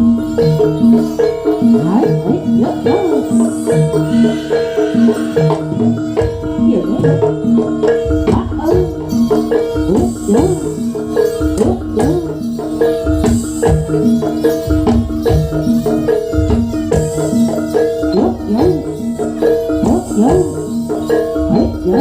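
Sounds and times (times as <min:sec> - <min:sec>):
hand drum strokes: 0:00.0 - 0:22.0
metallophones playing ringing notes: 0:00.0 - 0:22.0.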